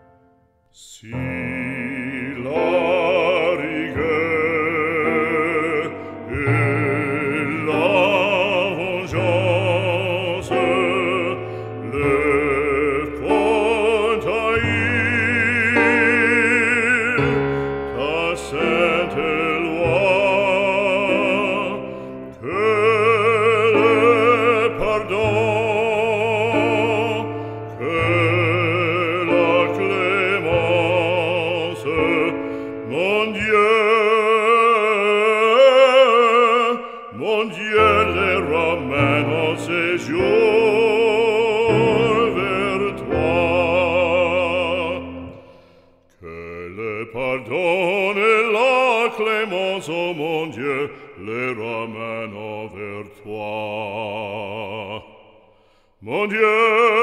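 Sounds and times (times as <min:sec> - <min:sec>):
operatic singing: 0:00.0 - 0:57.0.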